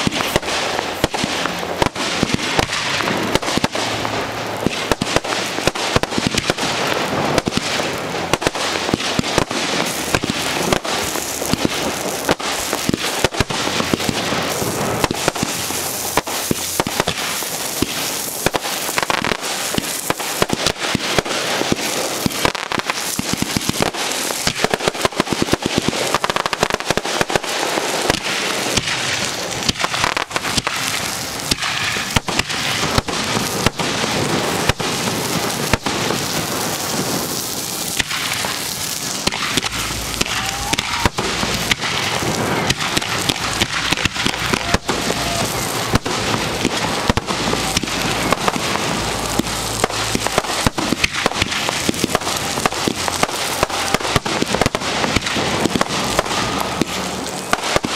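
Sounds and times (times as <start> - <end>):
fireworks bursting: 0.0 - 57.9
fireworks crackling: 0.0 - 57.9.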